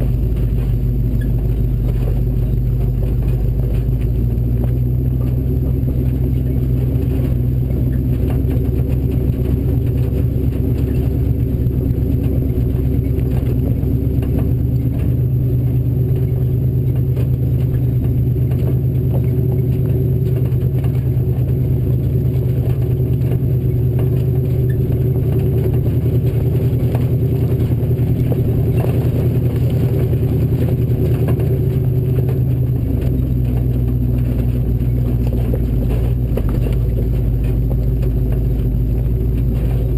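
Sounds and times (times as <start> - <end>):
knocks and rattles: 0.0 - 39.9
truck engine running: 0.0 - 39.9.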